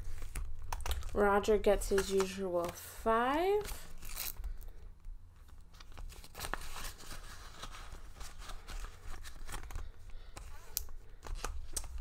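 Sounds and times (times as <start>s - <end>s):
plastic envelope rustling: 0.0s - 12.0s.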